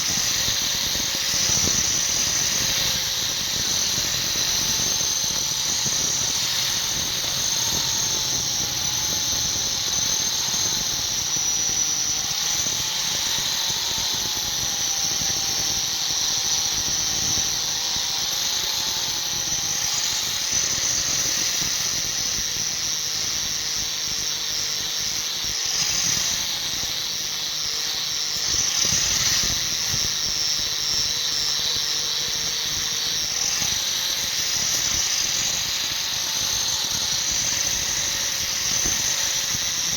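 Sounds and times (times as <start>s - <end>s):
power grinder grinding steel: 0.0s - 39.9s.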